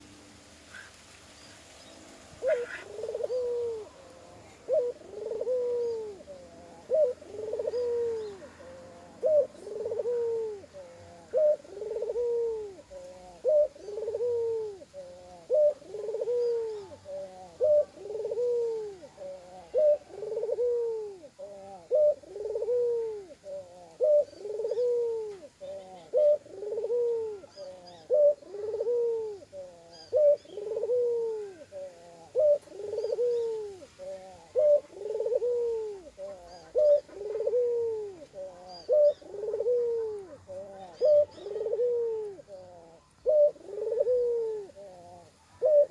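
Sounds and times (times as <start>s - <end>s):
dove cooing: 2.4s - 45.9s.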